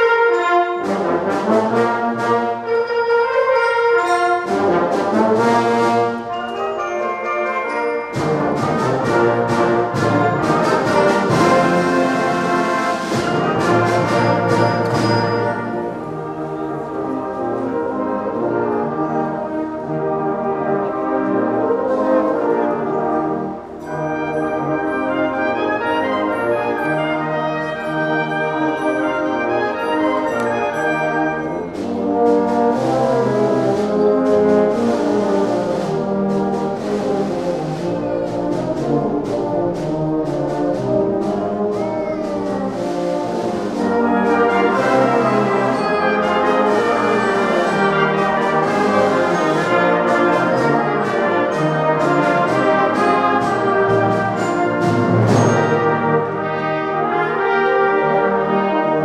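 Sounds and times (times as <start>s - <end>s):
percussion strokes: 0.0s - 20.0s, 20.9s - 58.6s
brass band playing: 0.0s - 59.0s.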